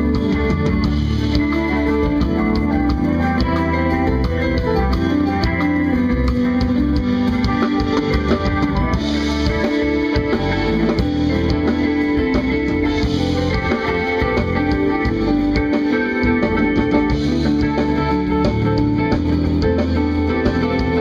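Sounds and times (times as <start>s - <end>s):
drum kit: 0.0s - 21.0s
electric bass: 0.0s - 21.0s
electric guitar: 0.0s - 21.0s
keyboards: 0.0s - 21.0s.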